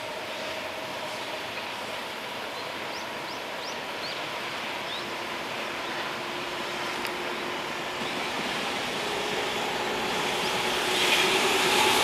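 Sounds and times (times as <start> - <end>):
freight train rushing: 0.0 - 12.0.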